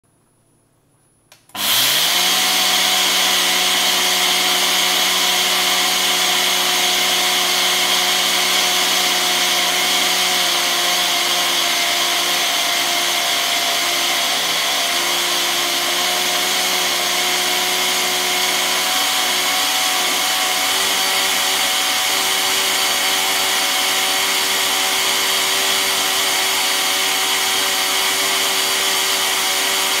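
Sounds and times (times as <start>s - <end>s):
blender motor whine: 1.4s - 30.0s.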